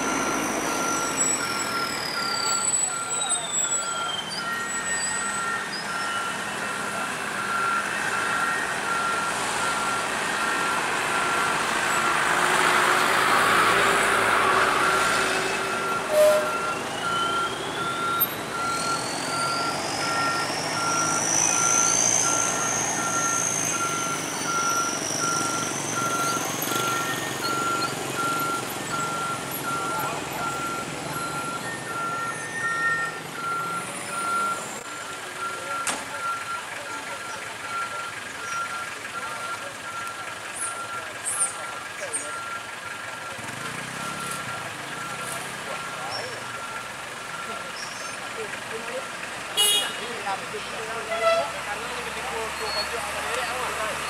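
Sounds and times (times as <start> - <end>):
truck engine: 0.0 - 54.0
truck reversing alarm beeping: 0.0 - 54.0.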